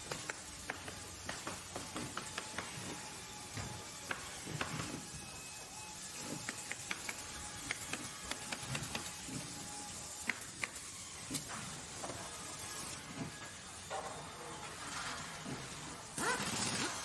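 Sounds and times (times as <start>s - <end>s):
steady mechanical hiss: 0.0s - 16.6s.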